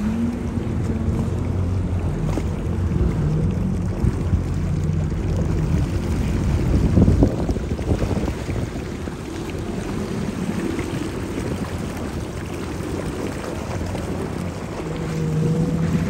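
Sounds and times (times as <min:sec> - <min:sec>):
jet ski engine running: 0:00.0 - 0:16.0
water jet rushing and spray: 0:00.0 - 0:16.0.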